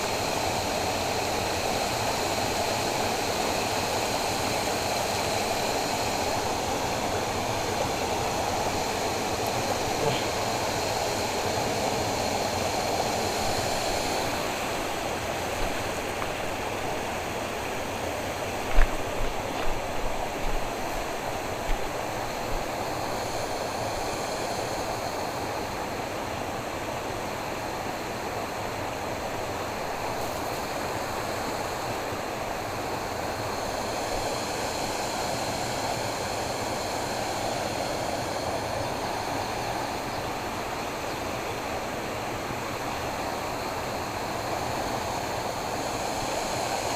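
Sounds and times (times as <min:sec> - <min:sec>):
stream water flowing: 0:00.0 - 0:46.9.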